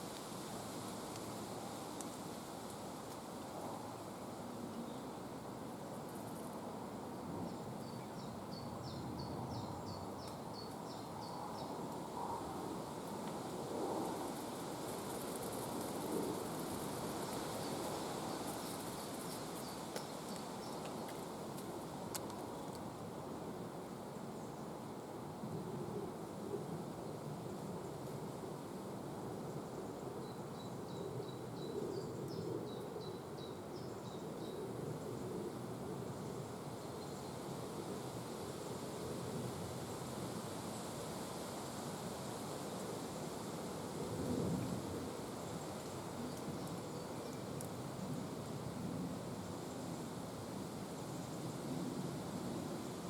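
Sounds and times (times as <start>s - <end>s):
low outdoor background noise: 0.0s - 53.0s.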